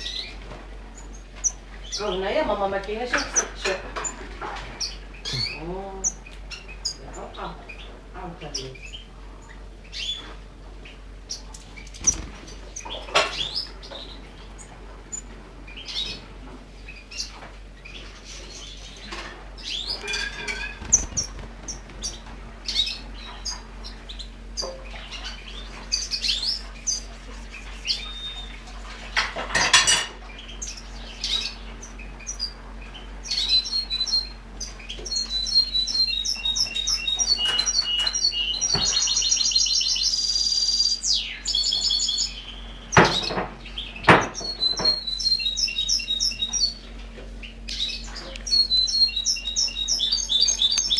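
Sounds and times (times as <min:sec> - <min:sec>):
goldfinches chirping and twittering: 0:00.0 - 0:00.4, 0:01.0 - 0:50.9.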